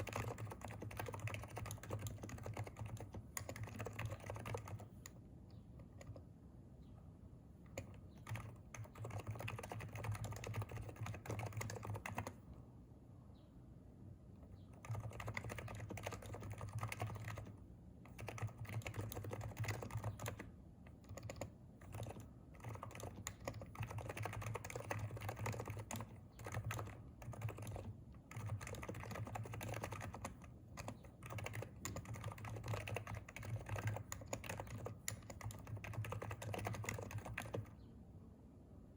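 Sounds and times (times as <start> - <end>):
keyboard typing: 0.0 - 6.3, 7.5 - 12.4, 14.4 - 37.8.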